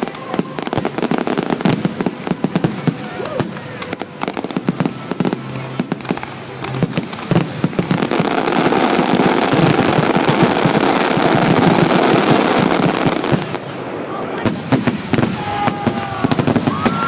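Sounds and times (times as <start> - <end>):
fireworks crackling explosions: 0.0 - 17.0.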